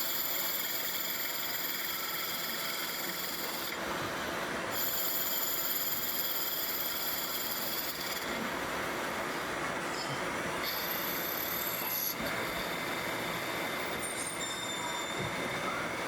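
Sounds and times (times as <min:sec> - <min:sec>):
high machine whine: 0:00.0 - 0:16.0.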